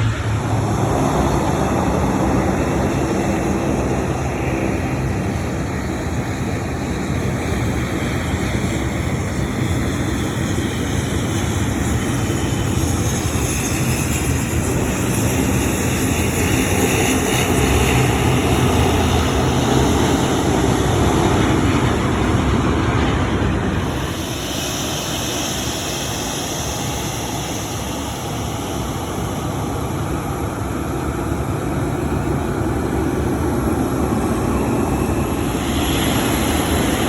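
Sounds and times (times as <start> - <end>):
jet airliner engines: 0.0 - 37.0.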